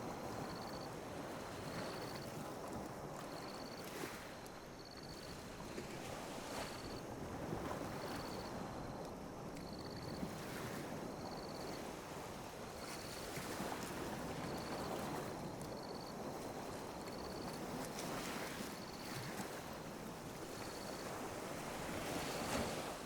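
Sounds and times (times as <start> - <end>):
small waves lapping on a beach: 0.0 - 23.0.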